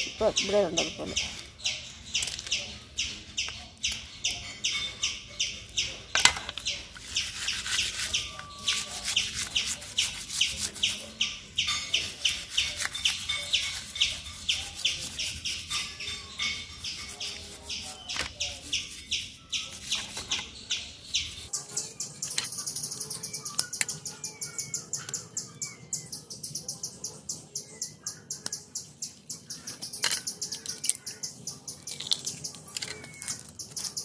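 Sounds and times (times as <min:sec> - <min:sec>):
rapid high chirps: 0:00.0 - 0:34.0.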